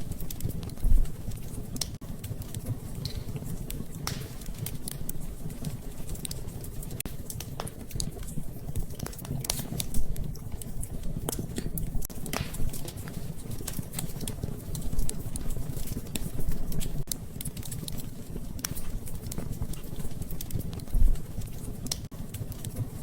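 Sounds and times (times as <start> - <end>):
low rumble of flames: 0.0 - 23.0
wood fire popping and snapping: 0.0 - 23.0.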